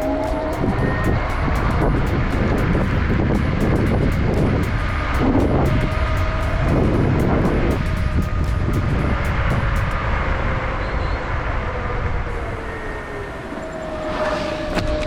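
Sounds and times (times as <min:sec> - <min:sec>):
hub motor whine: 0:00.0 - 0:15.0
wind and tyre rumble: 0:00.0 - 0:15.0.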